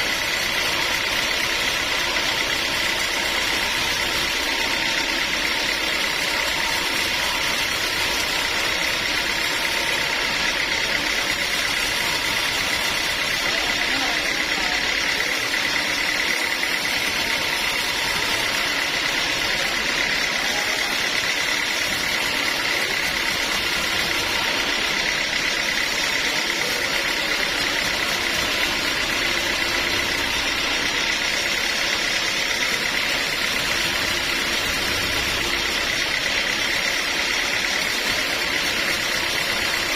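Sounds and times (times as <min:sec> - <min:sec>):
high-pitched machine whine: 0:00.0 - 0:39.9
sawmill machinery running: 0:00.0 - 0:39.9.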